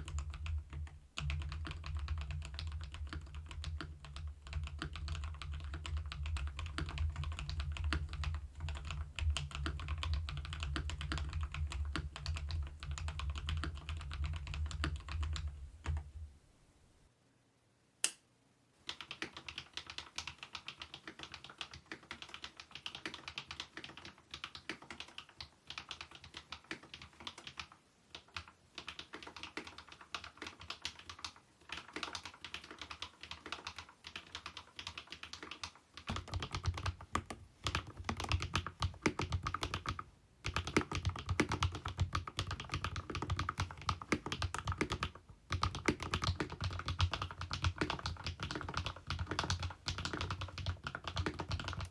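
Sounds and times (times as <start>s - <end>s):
mechanical keyboard typing: 0.0s - 16.0s, 18.8s - 51.9s.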